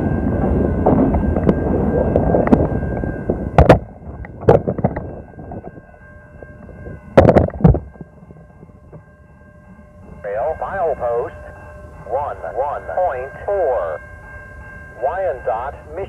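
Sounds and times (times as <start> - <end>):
faint steady high tones: 0.0 - 16.0
freight train rumbling past: 0.0 - 16.0.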